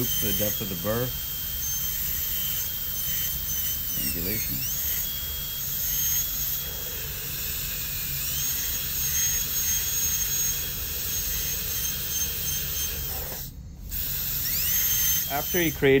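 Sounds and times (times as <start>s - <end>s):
dental drill whining: 0.0s - 16.0s.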